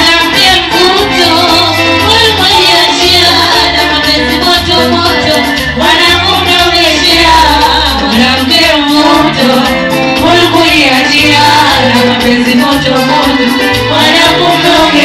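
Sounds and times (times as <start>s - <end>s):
bass line: 0.0s - 15.0s
person singing: 0.0s - 15.0s.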